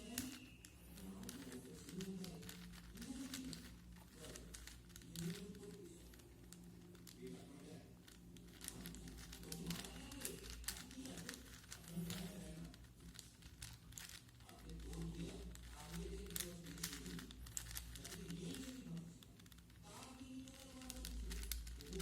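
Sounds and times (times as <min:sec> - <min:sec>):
puzzle cube clicking: 0:00.0 - 0:22.0.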